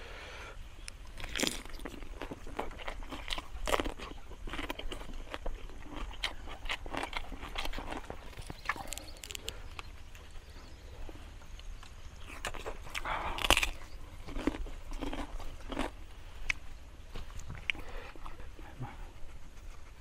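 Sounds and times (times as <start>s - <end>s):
chewing and mouth smacks: 1.0s - 20.0s.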